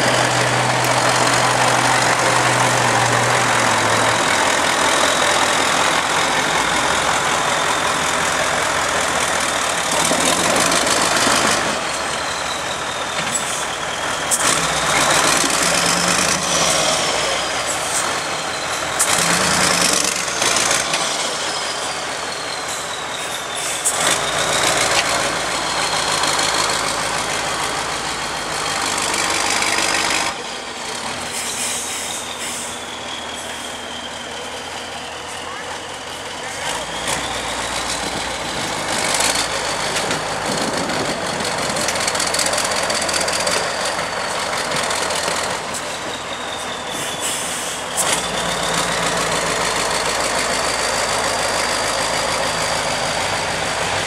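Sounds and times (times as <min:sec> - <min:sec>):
truck engine under load: 0:00.0 - 0:54.0.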